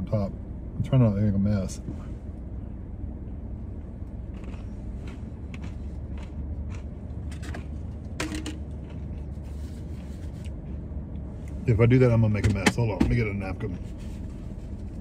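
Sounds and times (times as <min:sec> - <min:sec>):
low rumble in car cabin: 0:00.0 - 0:15.0.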